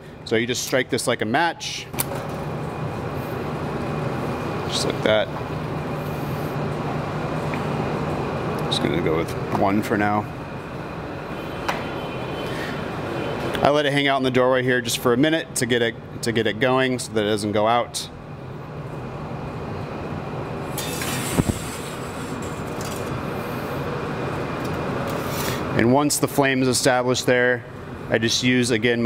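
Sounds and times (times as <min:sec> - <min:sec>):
ventilation hood fan humming: 0:00.0 - 0:29.0.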